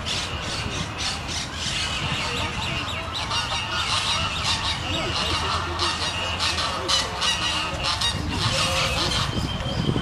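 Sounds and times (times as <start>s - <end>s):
chorus of bird calls: 0.0s - 10.0s.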